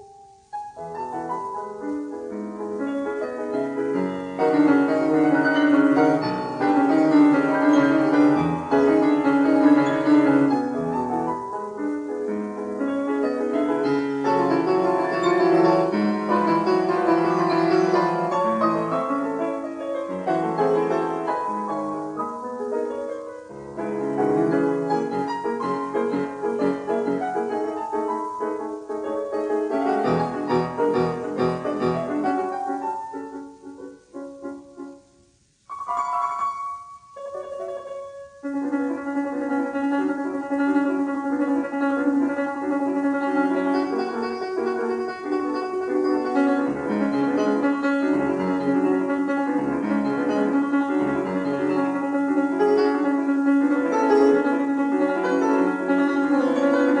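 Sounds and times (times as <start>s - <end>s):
classical piano music: 0.0s - 57.0s.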